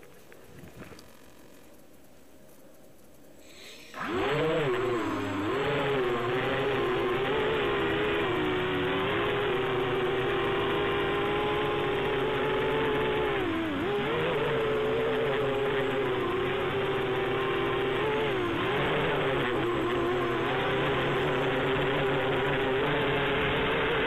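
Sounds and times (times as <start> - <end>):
drone motors buzzing whine: 0.0 - 24.0.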